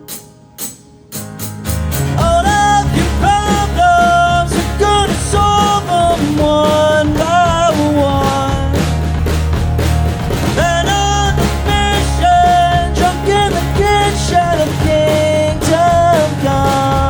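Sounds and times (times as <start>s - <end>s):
punk rock band playing: 0.0s - 17.0s
sharp drum hits: 0.0s - 17.0s.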